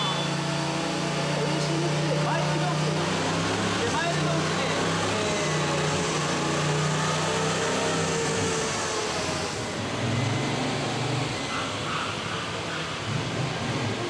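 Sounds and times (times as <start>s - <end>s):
motorcycle engine running on a dynamometer: 0.0s - 11.5s.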